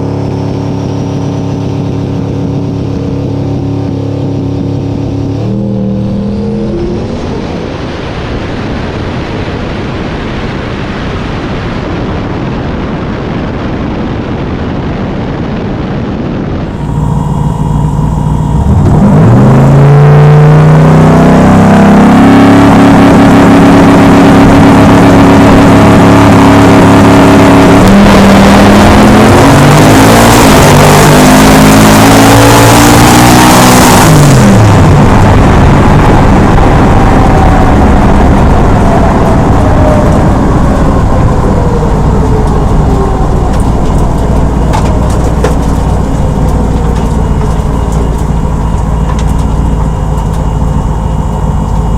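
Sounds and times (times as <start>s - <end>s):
race car engine at full throttle: 0.0s - 51.9s.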